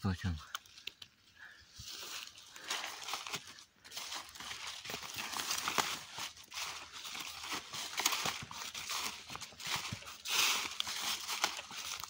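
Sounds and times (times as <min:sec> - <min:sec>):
footsteps in dry leaves: 0:01.7 - 0:12.0.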